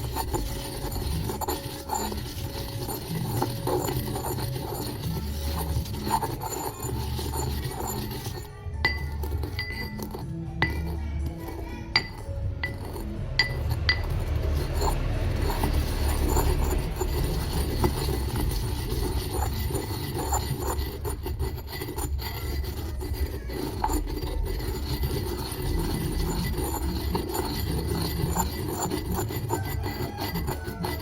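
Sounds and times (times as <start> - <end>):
grinding in a hard vessel: 0.0 - 31.0.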